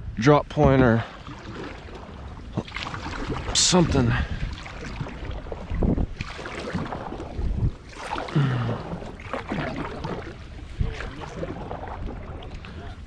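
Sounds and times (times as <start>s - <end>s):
water lapping against hull: 0.0s - 13.0s
wind buffeting microphone: 0.0s - 13.0s.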